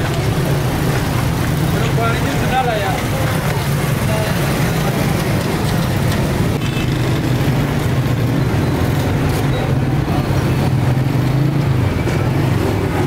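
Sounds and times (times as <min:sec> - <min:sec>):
street traffic drone: 0:00.0 - 0:13.0.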